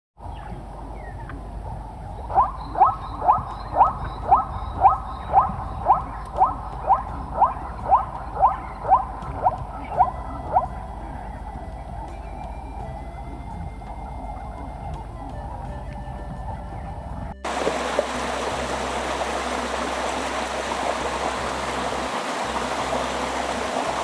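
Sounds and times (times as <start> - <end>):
low background hum: 0.2 - 24.0.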